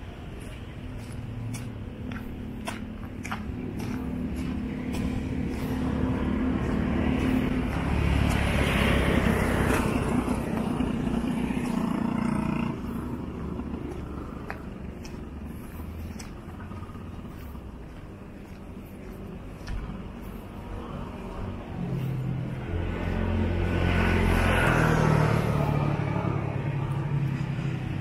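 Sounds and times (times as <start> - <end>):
traffic hum: 0.0 - 28.0
vehicle passing close by: 1.5 - 28.0.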